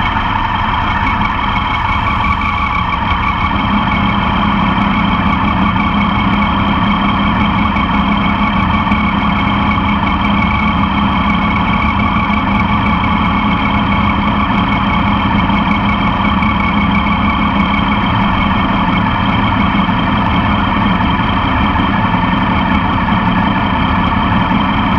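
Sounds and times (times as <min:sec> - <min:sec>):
motorcycle engine running steadily: 0:00.0 - 0:24.9.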